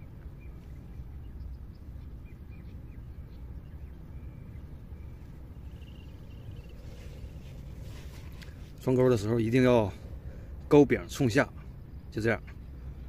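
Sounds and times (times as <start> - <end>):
low rumble: 0.0 - 13.0
small birds chirping: 0.0 - 13.0.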